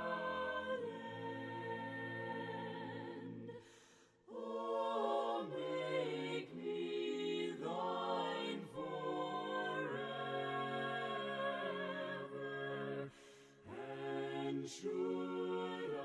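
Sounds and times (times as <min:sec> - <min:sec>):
slow choral music: 0:00.0 - 0:16.0.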